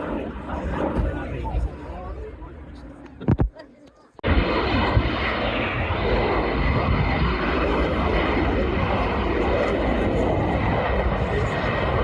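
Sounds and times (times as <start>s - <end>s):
jet engine roaring past: 0.0s - 3.2s, 4.2s - 12.0s.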